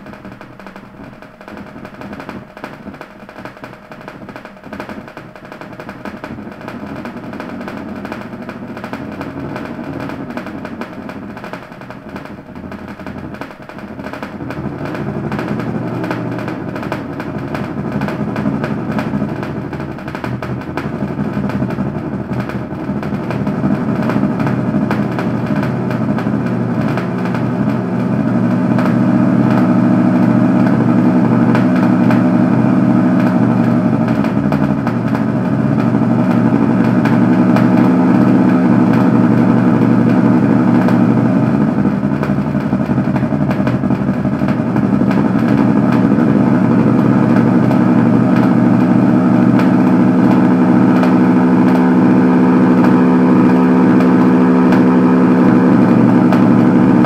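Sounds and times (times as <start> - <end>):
loud engine drone: 0.0 - 57.0.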